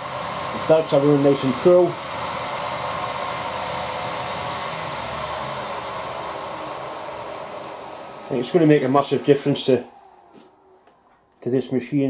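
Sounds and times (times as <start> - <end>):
milling machine motor whirring: 0.0 - 11.4.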